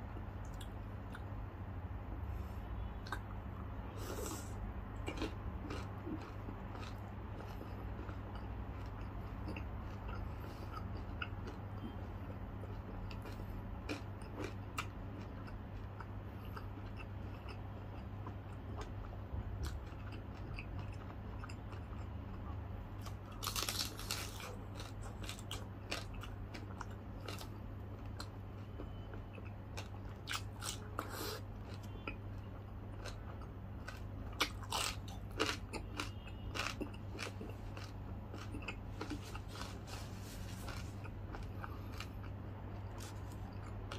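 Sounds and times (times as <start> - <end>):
low electrical hum: 0.0 - 43.9
chewing crispy pork skin: 4.0 - 43.9.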